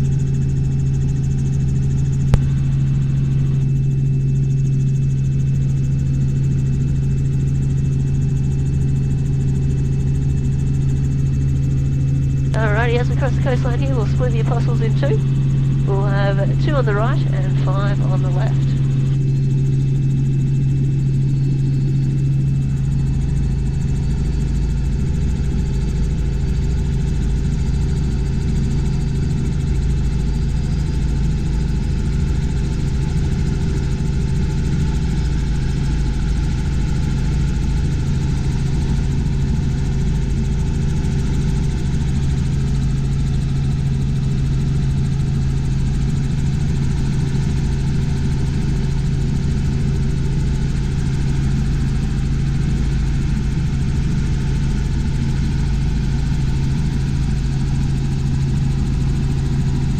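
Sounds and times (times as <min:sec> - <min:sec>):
helicopter cabin drone: 0:00.0 - 0:59.9.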